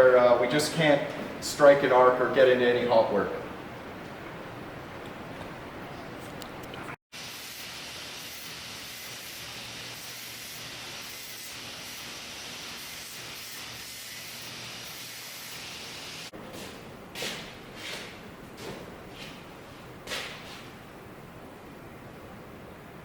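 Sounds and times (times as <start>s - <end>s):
steady room noise hiss: 0.0s - 23.0s.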